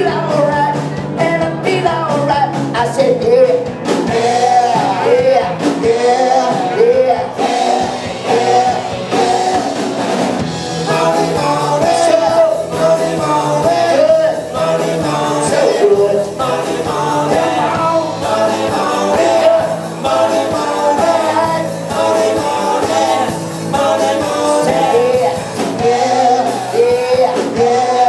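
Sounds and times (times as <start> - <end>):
live rock and roll band: 0.0 - 28.0.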